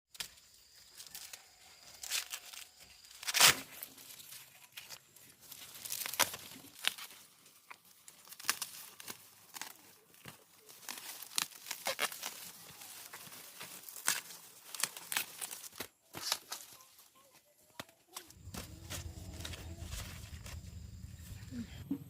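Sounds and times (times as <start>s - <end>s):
dry plants rustling and snapping: 0.1s - 17.1s, 17.7s - 21.0s.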